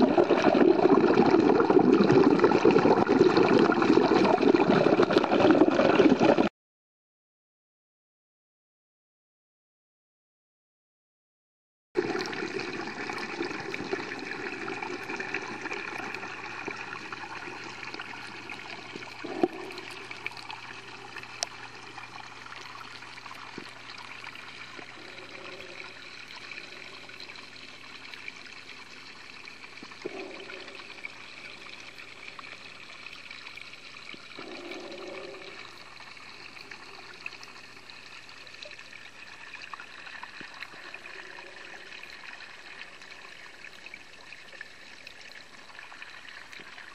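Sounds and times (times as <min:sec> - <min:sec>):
water rushing underwater: 0:00.0 - 0:06.5, 0:12.0 - 0:46.9.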